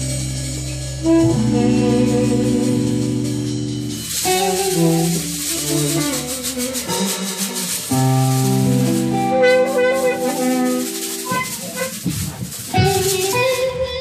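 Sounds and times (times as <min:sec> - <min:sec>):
electric guitar chords: 0:00.0 - 0:14.0
maraca shaking: 0:00.0 - 0:14.0.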